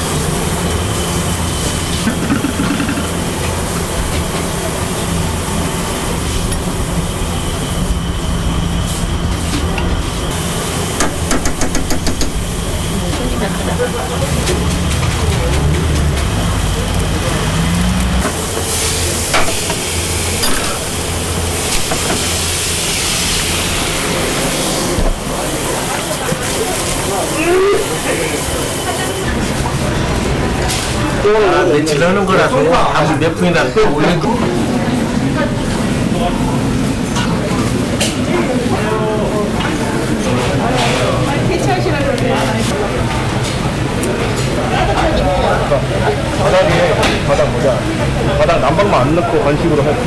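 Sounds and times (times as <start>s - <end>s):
kitchen hum and rush: 0.0s - 50.0s.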